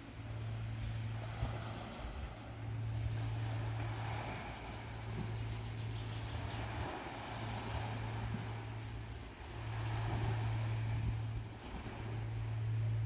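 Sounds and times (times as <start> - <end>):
small waves washing onto beach: 0.0 - 13.0
steady low drone: 0.0 - 13.0.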